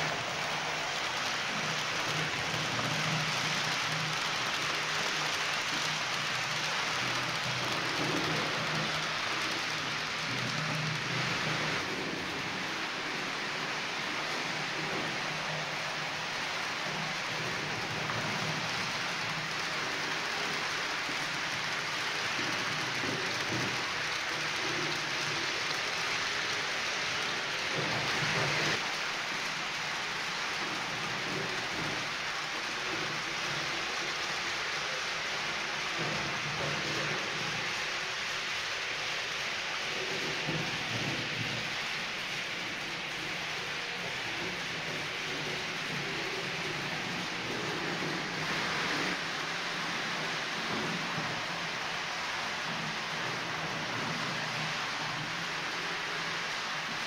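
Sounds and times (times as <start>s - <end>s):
model train wheels on rails: 0.0s - 57.0s.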